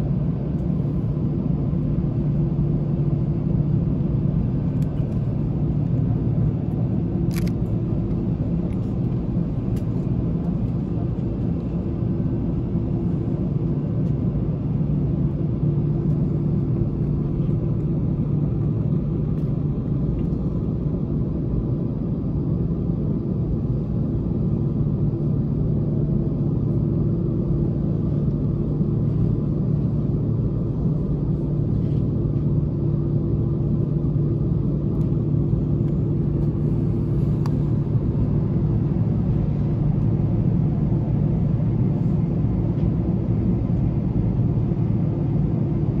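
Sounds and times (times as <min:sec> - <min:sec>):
airliner engines droning: 0:00.0 - 0:46.0.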